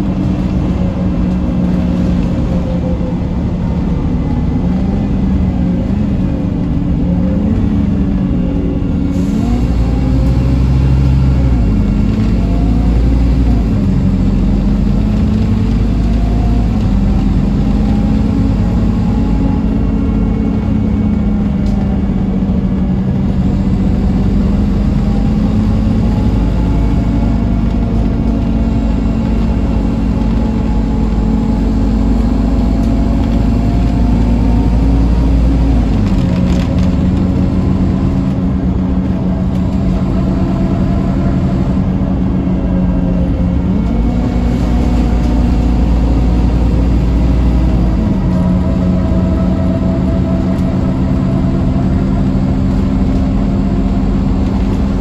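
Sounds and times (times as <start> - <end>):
diesel bus engine droning: 0.0 - 55.0
road rumble: 0.0 - 55.0.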